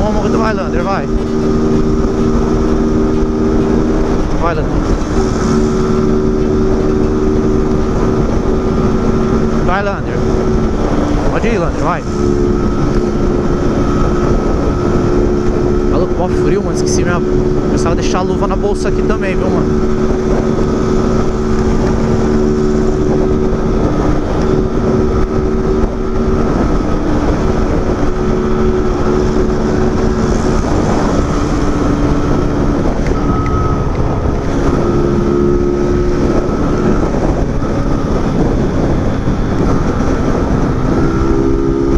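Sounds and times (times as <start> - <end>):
motorcycle engine running: 0.0 - 41.9
wind rushing over microphone: 0.0 - 41.9.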